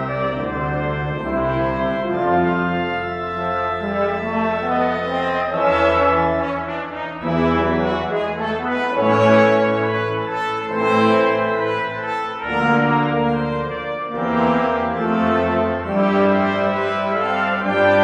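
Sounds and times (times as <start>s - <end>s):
brass ensemble: 0.0s - 18.0s
organ sustained chords: 0.0s - 18.0s.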